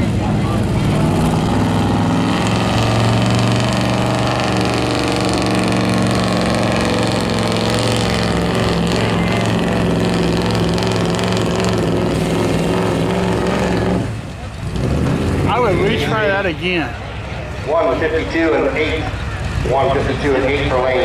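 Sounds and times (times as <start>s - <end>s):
loud vehicle engine running: 0.0s - 21.0s.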